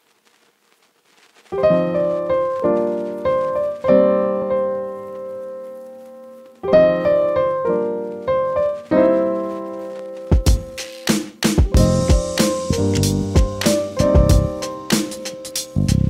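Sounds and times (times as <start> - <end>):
piano chords: 1.6 - 16.0.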